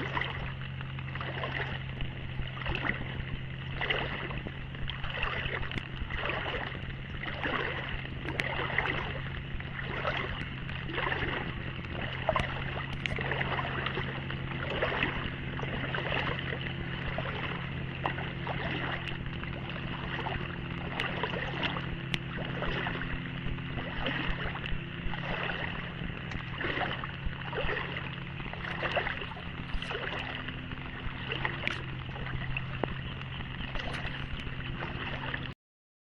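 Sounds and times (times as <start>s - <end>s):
engine hum: 0.0s - 35.6s
water splashing: 0.0s - 35.6s.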